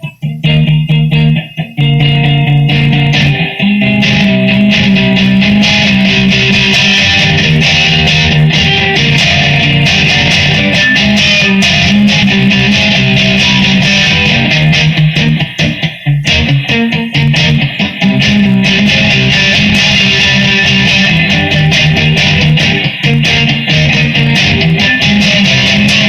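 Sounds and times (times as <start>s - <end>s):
electric guitar strumming chords: 0.0s - 26.0s.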